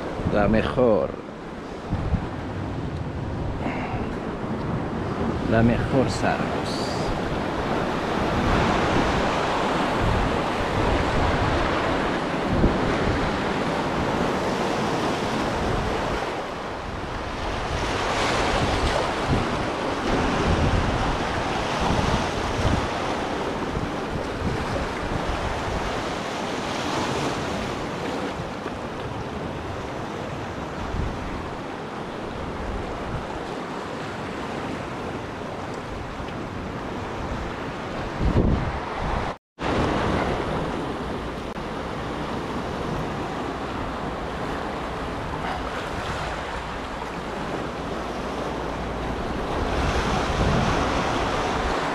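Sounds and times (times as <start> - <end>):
wind buffeting microphone: 1.4 - 51.9.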